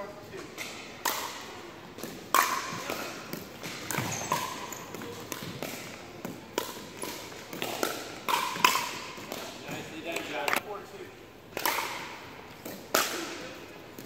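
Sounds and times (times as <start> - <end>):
paddles hitting plastic ball: 0.6 - 10.6, 11.5 - 14.0.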